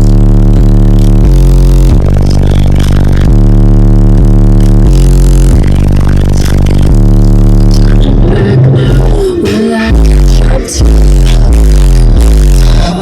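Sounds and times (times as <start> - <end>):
bass-heavy music from car audio: 0.0 - 13.0.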